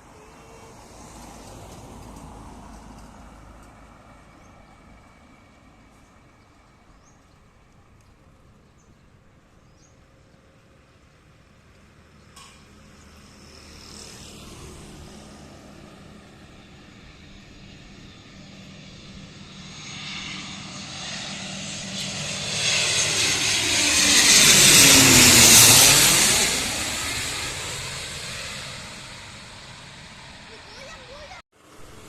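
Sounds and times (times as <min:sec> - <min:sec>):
turboprop plane flying past: 0:00.0 - 0:32.0.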